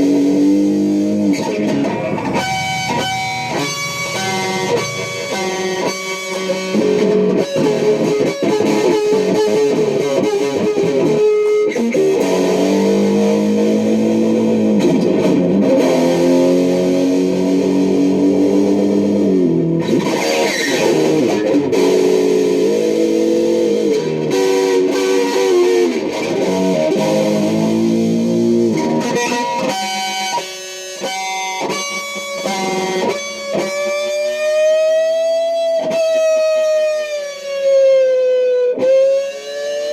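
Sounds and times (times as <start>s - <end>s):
electric guitar with bent notes: 0.0s - 39.9s.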